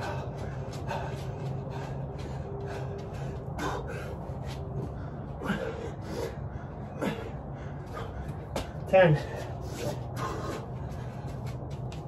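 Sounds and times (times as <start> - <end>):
person breathing hard: 0.0 - 12.0.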